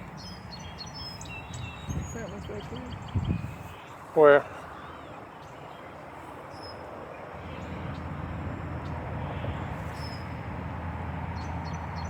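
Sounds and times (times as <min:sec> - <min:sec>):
motor traffic rumble: 0:00.0 - 0:12.0.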